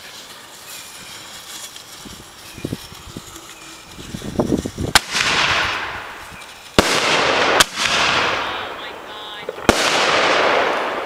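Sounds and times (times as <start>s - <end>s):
firework hiss: 0.0s - 11.0s.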